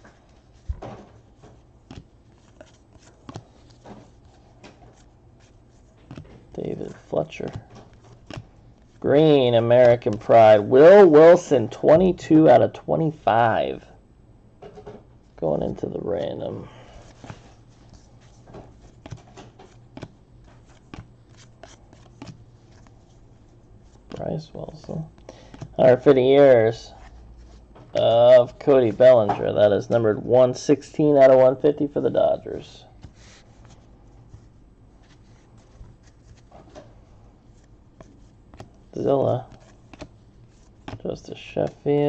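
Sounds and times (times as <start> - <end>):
trading cards rustling: 0.0 - 11.2, 15.4 - 30.4, 32.0 - 42.0.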